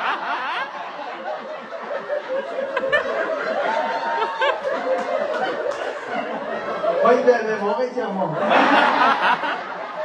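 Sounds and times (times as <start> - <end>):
group of people laughing: 0.0 - 10.0.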